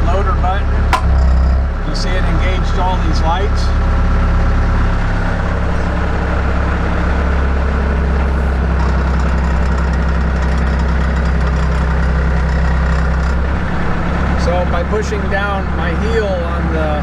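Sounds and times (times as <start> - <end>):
diesel engine idling: 1.6 - 17.0.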